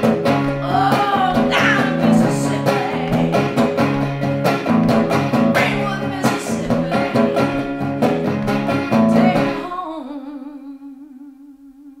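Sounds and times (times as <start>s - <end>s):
woman singing blues: 0.0s - 4.3s, 4.9s - 12.0s
electric guitar strumming: 0.0s - 9.9s.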